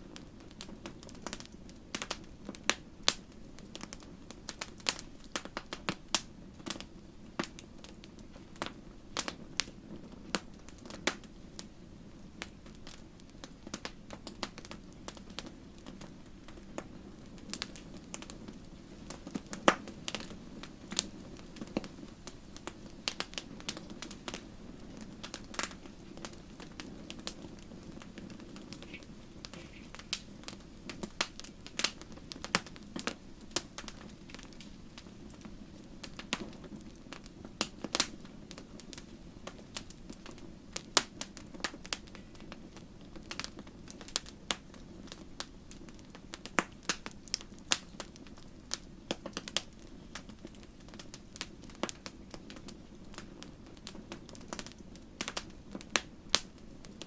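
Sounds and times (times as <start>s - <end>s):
campfire crackling and popping: 0.0s - 57.0s
low rush of flame: 0.0s - 57.0s.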